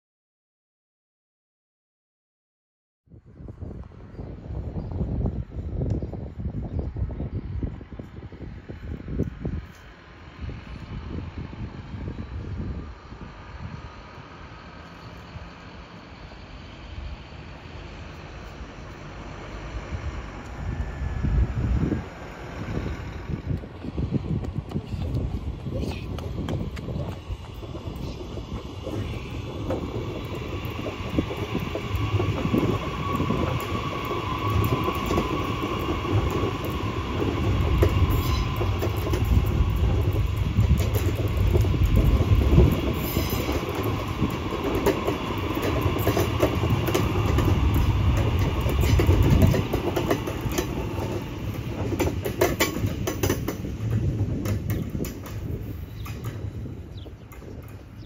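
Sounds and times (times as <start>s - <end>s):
train wheels rumbling on rail: 3.2s - 58.0s.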